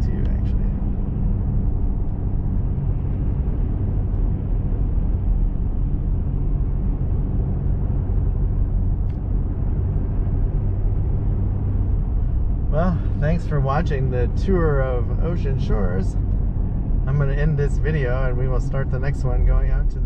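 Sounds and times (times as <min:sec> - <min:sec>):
car interior engine and tyre rumble: 0:00.0 - 0:20.0
steady hum: 0:00.0 - 0:20.0.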